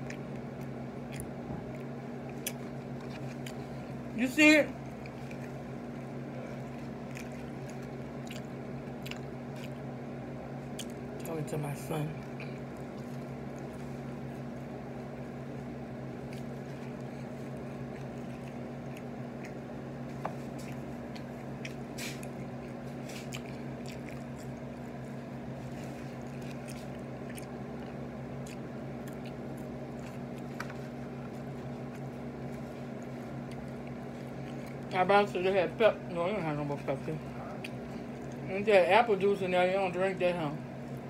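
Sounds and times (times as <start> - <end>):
person chewing food: 0.0 - 4.2, 4.8 - 11.2, 12.2 - 34.9, 37.2 - 38.5
steady low hum: 0.0 - 41.0.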